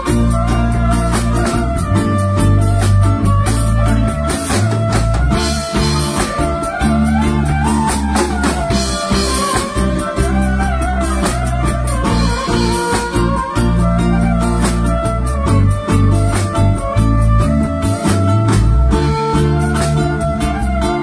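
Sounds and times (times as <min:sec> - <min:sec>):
bass: 0:00.0 - 0:21.0
drum beat: 0:00.0 - 0:21.0
violin melody with pitch slides: 0:00.0 - 0:21.0.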